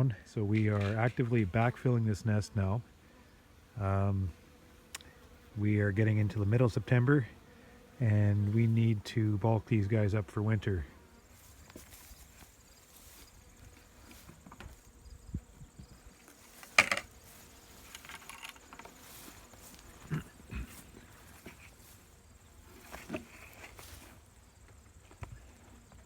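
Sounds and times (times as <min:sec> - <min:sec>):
honeybees humming: 0:00.0 - 0:26.0.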